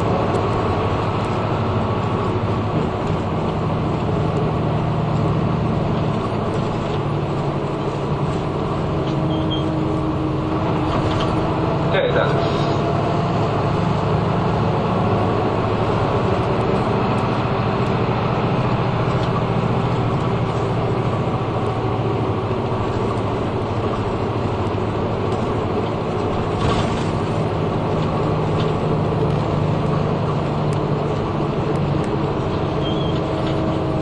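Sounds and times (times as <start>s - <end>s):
bus engine and road drone: 0.0s - 34.0s.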